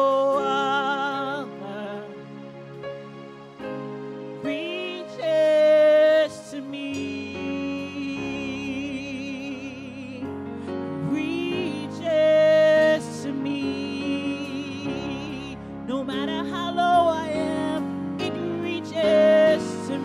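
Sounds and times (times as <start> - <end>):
woman singing gospel: 0.0 - 2.0, 4.4 - 10.2, 11.0 - 20.0.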